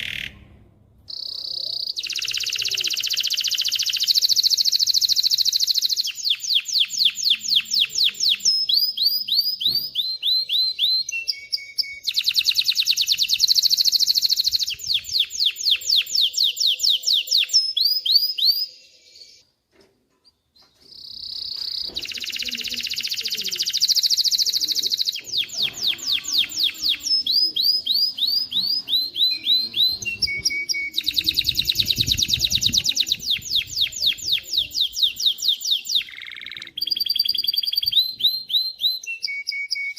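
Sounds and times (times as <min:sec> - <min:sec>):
canary singing trills: 0:00.0 - 0:00.5, 0:01.1 - 0:19.4, 0:20.2 - 0:39.9.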